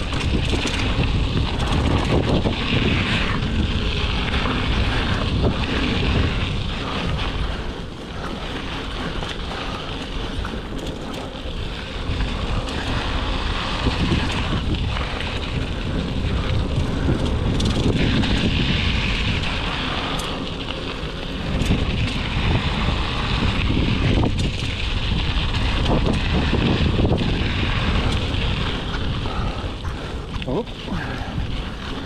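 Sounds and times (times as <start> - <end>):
bike clicks and rattles: 0.0 - 32.0
bike tyres crunching on gravel: 0.0 - 32.0
wind buffeting microphone: 0.0 - 32.0.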